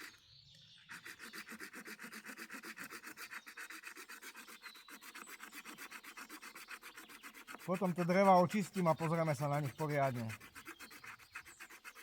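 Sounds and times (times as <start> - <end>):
small saw cutting branch: 0.0 - 12.0.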